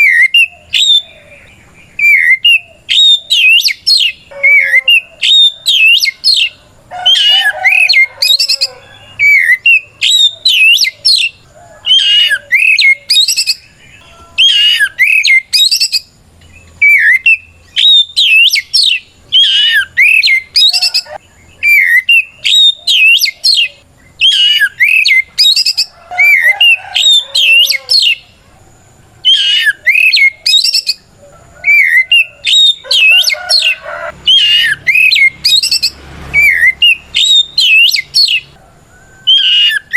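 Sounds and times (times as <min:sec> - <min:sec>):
bird singing whistled phrases: 0:00.0 - 0:16.1, 0:16.8 - 0:28.2, 0:29.3 - 0:31.0, 0:31.7 - 0:38.5, 0:39.2 - 0:39.9.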